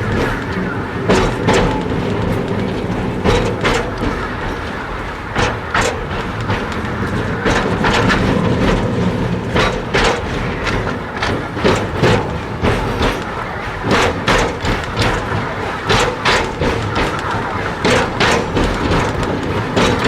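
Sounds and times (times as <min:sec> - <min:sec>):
steam train rumbling: 0:00.0 - 0:20.0
wheels clattering on track: 0:00.0 - 0:20.0.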